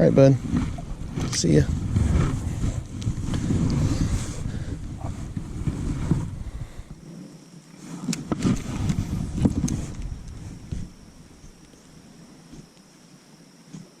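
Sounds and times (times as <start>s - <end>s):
wind buffeting microphone: 0.0s - 7.1s, 8.1s - 12.7s.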